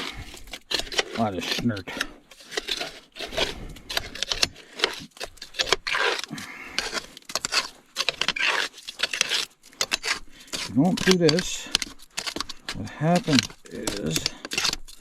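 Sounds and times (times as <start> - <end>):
mud being scraped: 0.0 - 15.0.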